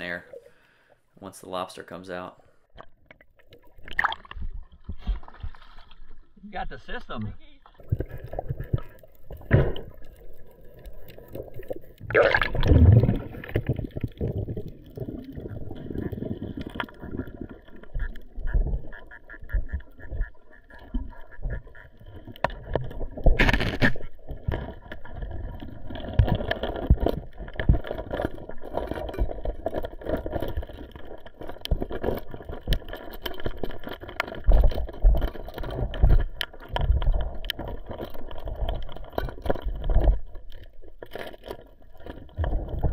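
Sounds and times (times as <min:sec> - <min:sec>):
muffled underwater rumbling and knocking: 0:03.9 - 0:42.9.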